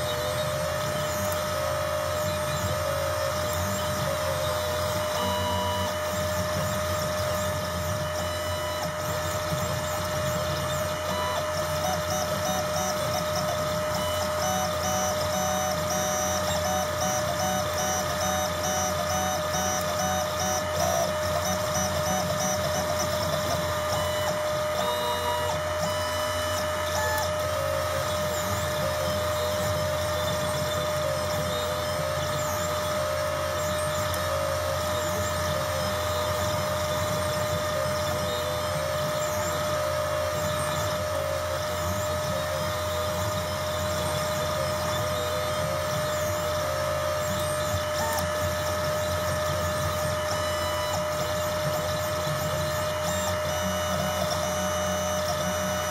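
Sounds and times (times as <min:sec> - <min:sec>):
spindle motor whine: 0:00.0 - 0:55.9
stepper motors whirring: 0:00.0 - 0:55.9.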